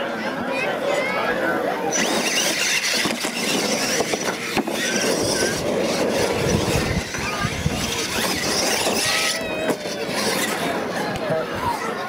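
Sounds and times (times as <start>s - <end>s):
high motor whine: 1.4s - 12.0s.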